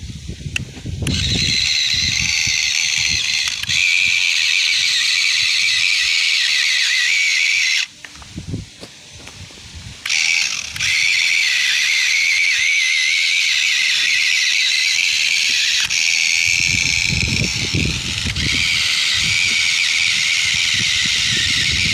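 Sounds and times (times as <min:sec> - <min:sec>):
toy electric motor whine: 0:00.2 - 0:08.0, 0:10.0 - 0:21.9.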